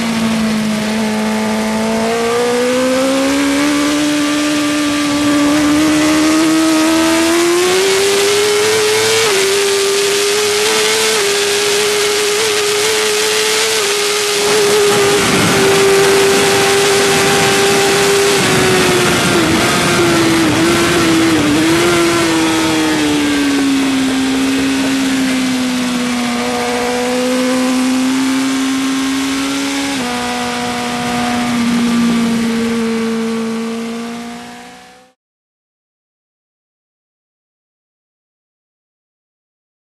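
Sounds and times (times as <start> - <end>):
wind rush: 0.0 - 33.9
motorcycle engine running hard: 0.0 - 35.2.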